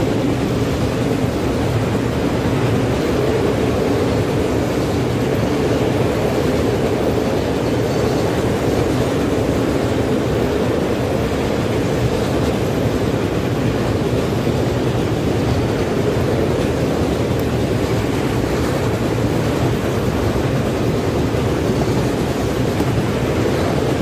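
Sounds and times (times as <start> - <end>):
freight train wheels on rails: 0.0 - 24.0.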